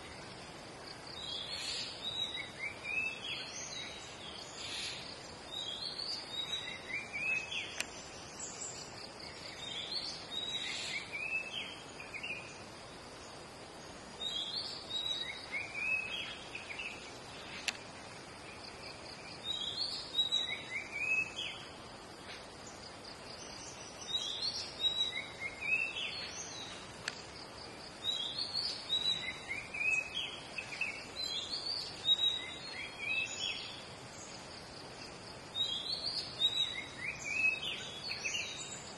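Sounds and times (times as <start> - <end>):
forest birds calling: 0.0 - 38.9.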